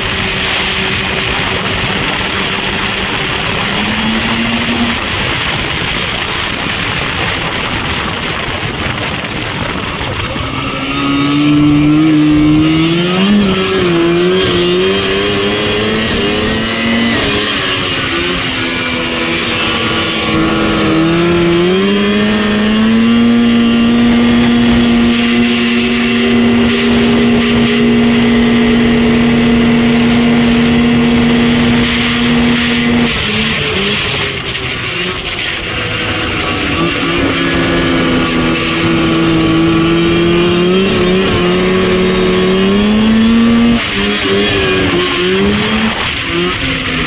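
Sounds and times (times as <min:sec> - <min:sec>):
thin high whine: 0:00.0 - 0:07.9, 0:09.9 - 0:47.0
snowmobile engine revving: 0:00.0 - 0:47.0.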